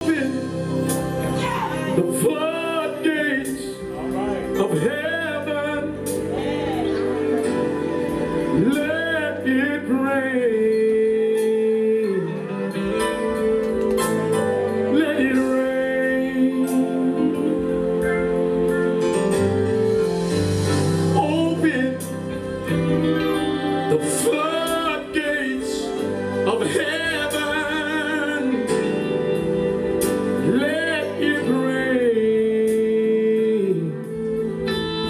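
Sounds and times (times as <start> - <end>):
sustained keyboard chords: 0.0 - 35.0.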